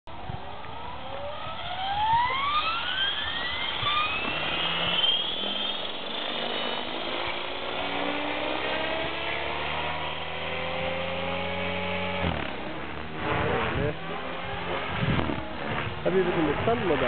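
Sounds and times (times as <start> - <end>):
rc helicopter motor whine: 0.1 - 17.0.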